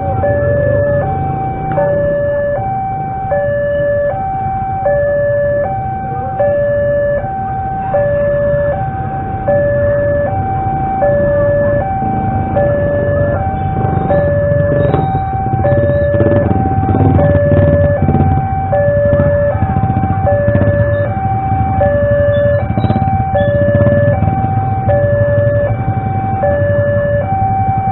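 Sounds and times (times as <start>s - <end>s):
two-tone crossing alarm: 0.0s - 27.9s.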